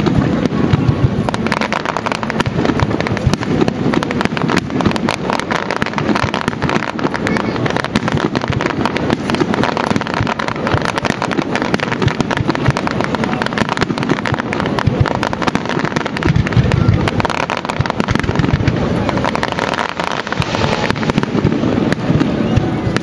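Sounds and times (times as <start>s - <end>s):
fireworks crackling pops and bangs: 0.0s - 23.0s
low firework boom: 0.0s - 23.0s.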